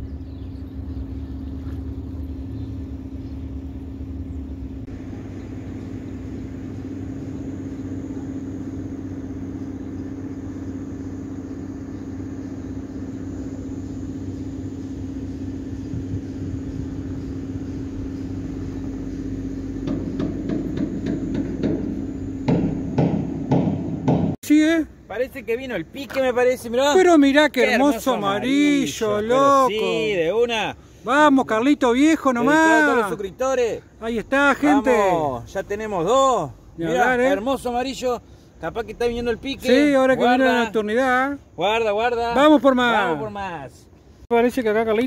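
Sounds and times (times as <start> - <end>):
motor hum: 0.0 - 44.2.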